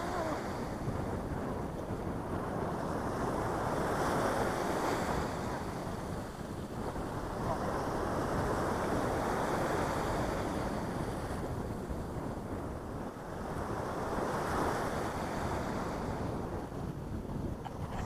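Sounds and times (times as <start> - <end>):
small waves breaking on a beach: 0.0 - 18.0
wind rumbling on microphone: 0.0 - 18.0.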